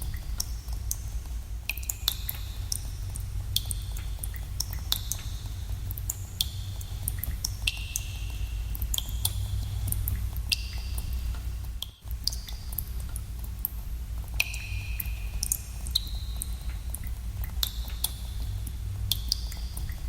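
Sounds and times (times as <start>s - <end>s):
water drops plinking in a cave: 0.0s - 20.0s.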